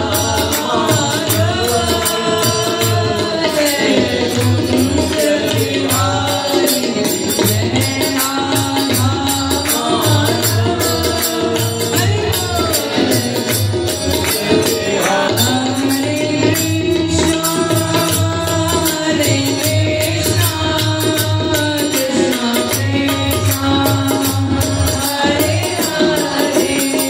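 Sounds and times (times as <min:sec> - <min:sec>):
drum beat: 0:00.0 - 0:27.0
jingling percussion: 0:00.0 - 0:27.0
man singing: 0:00.0 - 0:27.0.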